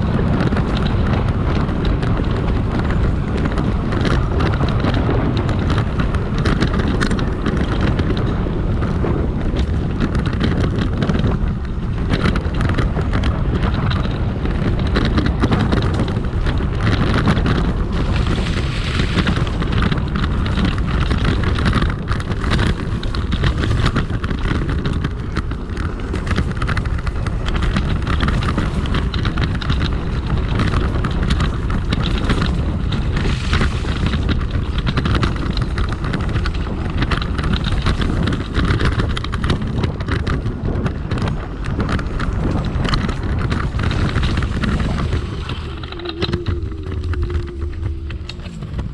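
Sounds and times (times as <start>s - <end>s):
crackles and bumps: 0.0s - 48.9s
tyres rumbling on rough ground: 0.0s - 48.9s
wind buffeting microphone: 0.0s - 48.9s.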